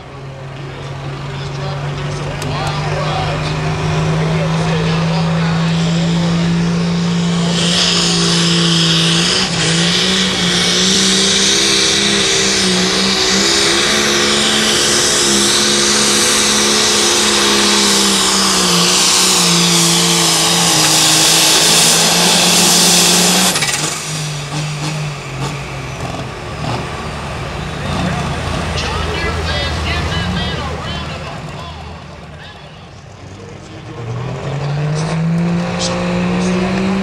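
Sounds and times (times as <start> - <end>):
high turbo whine: 0.0 - 37.0.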